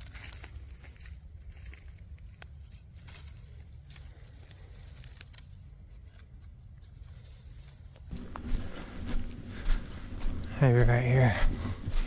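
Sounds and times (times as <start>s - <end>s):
twigs and leaves crackling: 0.0s - 10.0s
steady low rumble: 0.0s - 12.0s.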